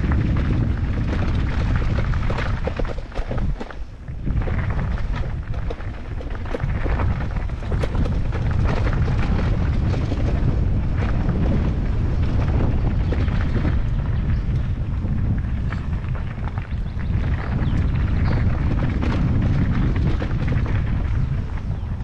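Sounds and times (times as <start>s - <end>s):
bike clicks and rattles: 0.0s - 22.0s
wind rumbling on microphone: 0.0s - 22.0s.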